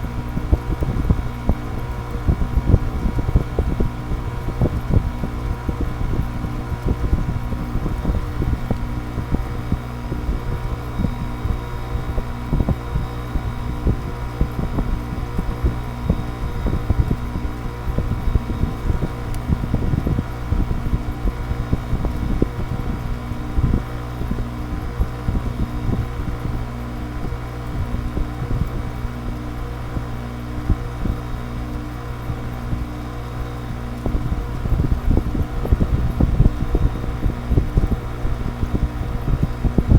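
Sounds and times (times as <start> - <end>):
air conditioner compressor humming: 0.0 - 39.9
air conditioner fan whoosh: 0.0 - 39.9.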